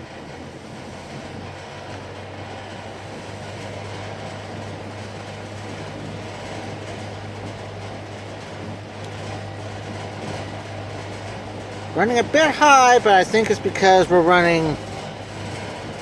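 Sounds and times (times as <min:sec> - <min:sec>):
box fan motor hum: 0:00.0 - 0:16.0
rush of air from fan: 0:00.0 - 0:16.0.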